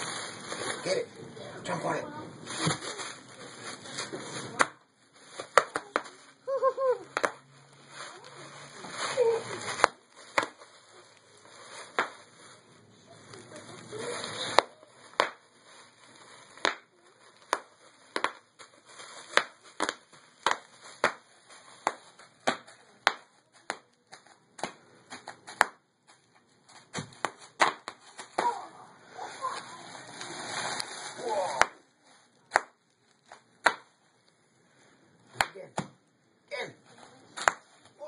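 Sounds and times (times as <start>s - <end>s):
bubble wrap popping: 0.0s - 1.0s, 2.4s - 34.4s, 37.2s - 38.0s.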